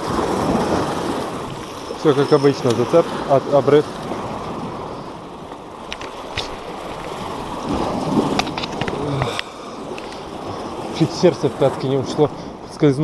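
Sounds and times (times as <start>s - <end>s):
surf washing against rocks: 0.0s - 13.0s.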